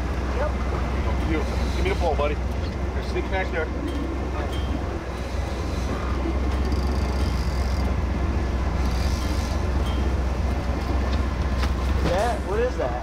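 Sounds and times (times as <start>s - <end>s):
boat engine droning: 0.0s - 13.0s
wind and water rushing: 0.0s - 13.0s.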